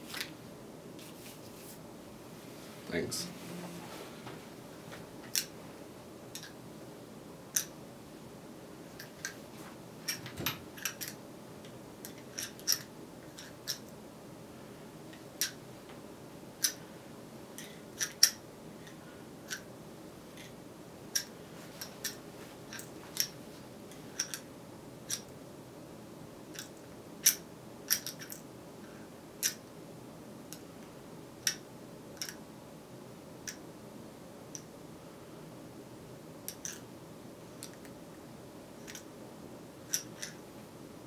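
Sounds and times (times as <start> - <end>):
low room hiss: 0.0 - 41.0.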